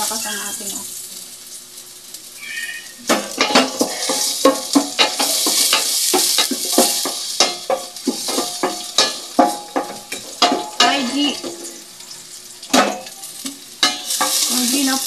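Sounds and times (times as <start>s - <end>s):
ginger sizzling in hot oil: 0.0s - 15.0s.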